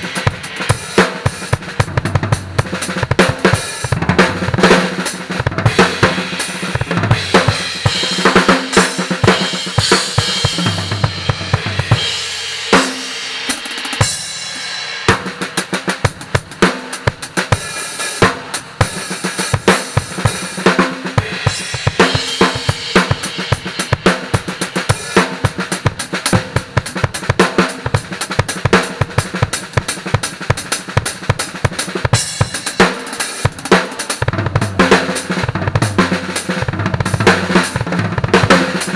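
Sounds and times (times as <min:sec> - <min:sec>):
snare drum: 0:00.0 - 0:38.9.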